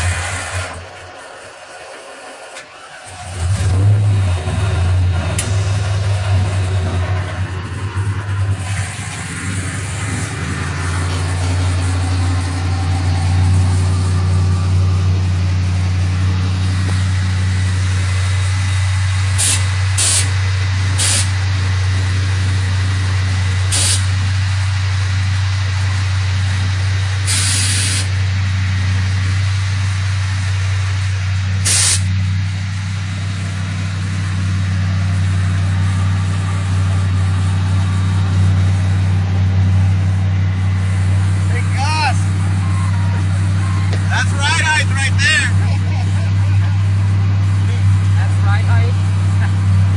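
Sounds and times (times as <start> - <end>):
truck engine idling: 0.0 - 49.9
air suspension hissing: 4.4 - 49.9.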